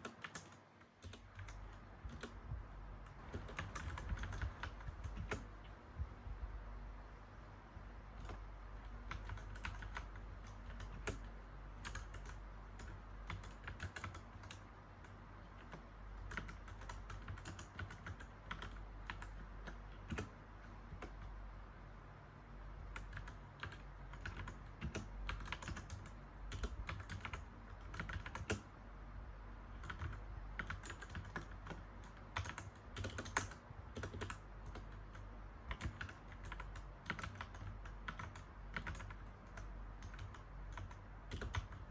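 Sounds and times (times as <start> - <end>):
mechanical keyboard typing: 0.0 - 5.8, 8.0 - 21.4, 22.8 - 28.8, 29.7 - 41.9
low steady hum: 0.0 - 41.9.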